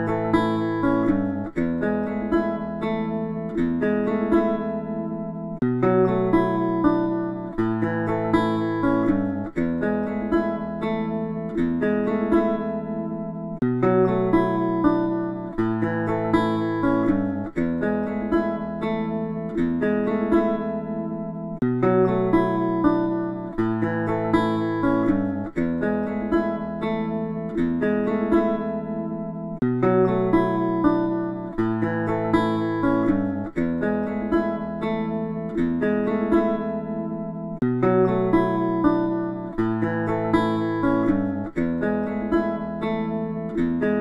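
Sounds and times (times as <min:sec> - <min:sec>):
acoustic guitar plucked chords: 0:00.0 - 0:44.0.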